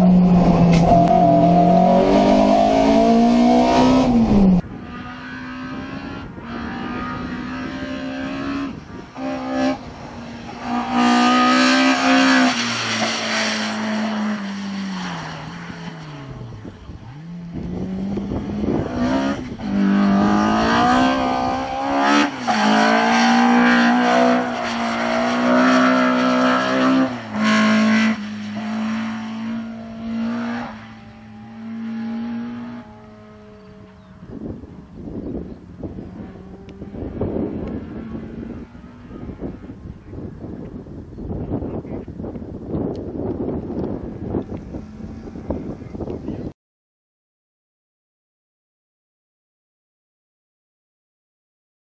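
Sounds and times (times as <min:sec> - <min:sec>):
car engine revving: 0:00.0 - 0:40.8, 0:43.2 - 0:46.4.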